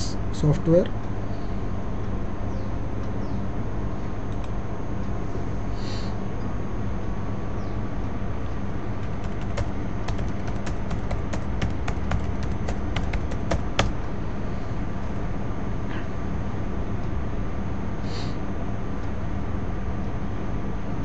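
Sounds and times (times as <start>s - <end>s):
steady low hum and hiss: 0.0s - 21.0s.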